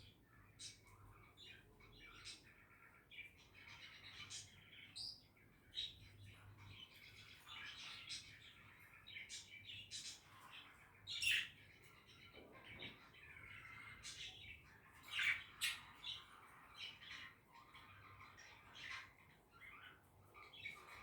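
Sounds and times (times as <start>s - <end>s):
budgies chirping and twittering: 0.0s - 21.0s.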